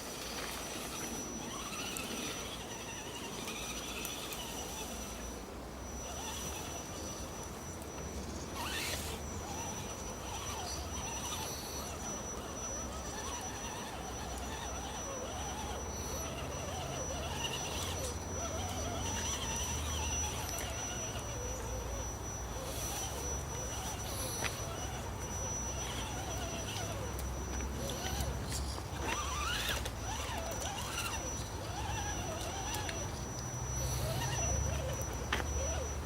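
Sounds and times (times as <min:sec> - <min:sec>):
rc car electric motor whine: 0:00.0 - 0:36.0.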